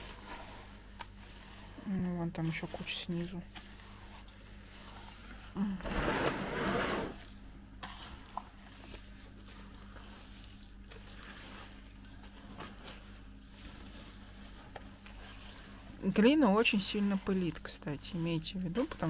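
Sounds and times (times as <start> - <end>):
wet clay squelching: 0.0 - 19.0.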